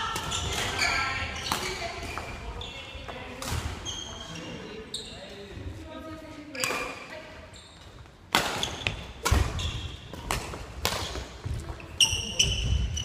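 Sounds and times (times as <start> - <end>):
sneakers squeaking on wooden floor: 0.1 - 5.8, 6.4 - 13.0.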